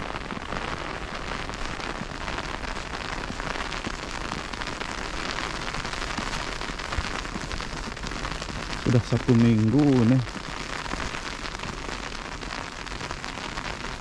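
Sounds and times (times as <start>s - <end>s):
snow pellets pattering: 1.5s - 13.0s.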